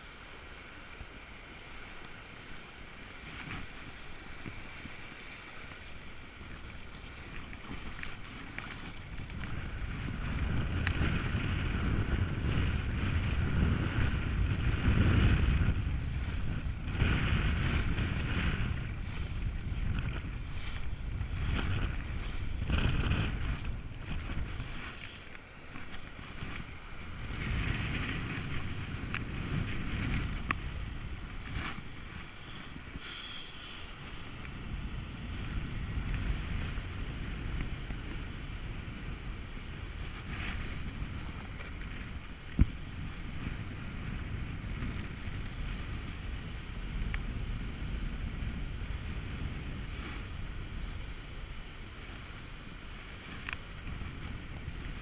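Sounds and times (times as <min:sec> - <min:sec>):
surf washing over sand: 0:00.0 - 0:55.0
wind buffeting microphone: 0:03.2 - 0:55.0.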